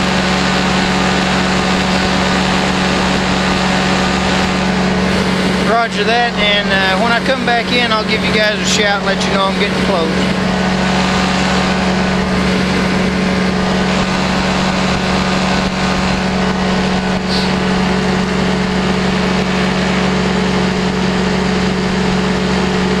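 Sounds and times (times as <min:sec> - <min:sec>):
engine and propeller drone: 0:00.0 - 0:23.0.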